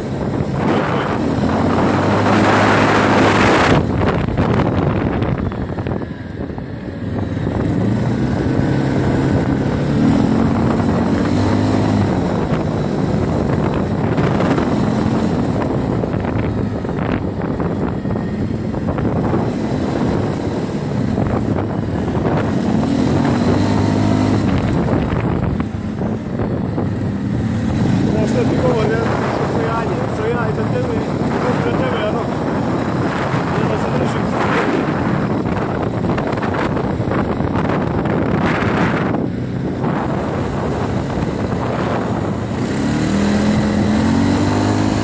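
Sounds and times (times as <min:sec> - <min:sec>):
quad bike engine revving: 0:00.0 - 0:45.0
wind noise on microphone: 0:00.0 - 0:45.0.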